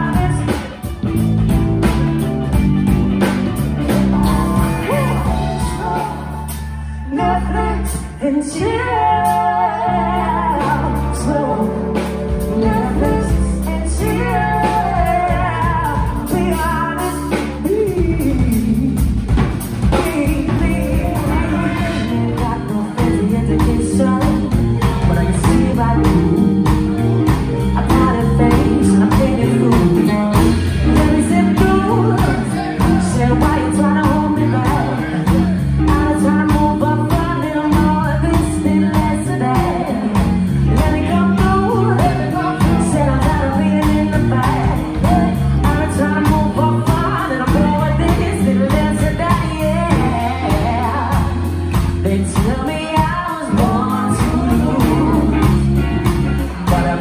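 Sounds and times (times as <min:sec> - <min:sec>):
drum kit beat: 0:00.0 - 0:06.9, 0:10.2 - 0:57.0
electric bass: 0:00.0 - 0:57.0
electric guitar: 0:00.0 - 0:57.0
women singing into microphones: 0:04.2 - 0:19.1, 0:19.9 - 0:26.8, 0:27.7 - 0:55.8, 0:56.5 - 0:57.0.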